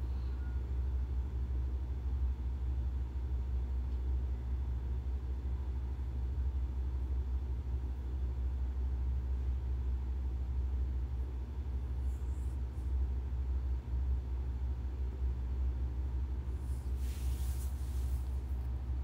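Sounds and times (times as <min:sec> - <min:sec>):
cafe room noise rumble: 0:00.0 - 0:19.0.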